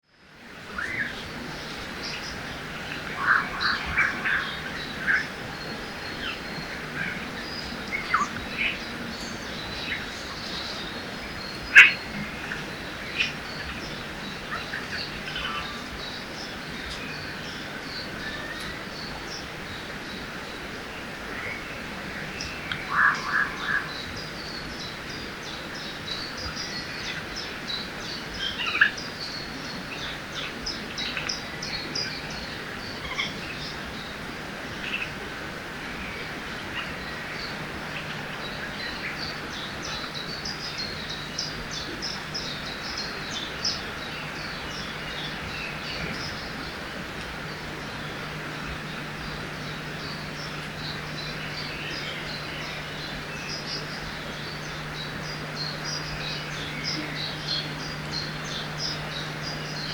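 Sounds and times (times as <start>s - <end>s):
river rushing: 0.2s - 59.9s
birds chirping and calling: 0.7s - 35.3s, 36.0s - 59.9s.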